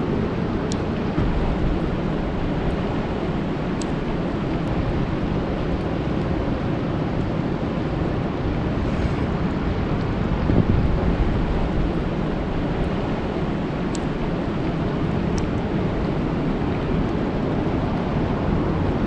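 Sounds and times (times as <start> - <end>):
rain falling on water: 0.2 - 8.7, 9.5 - 19.0.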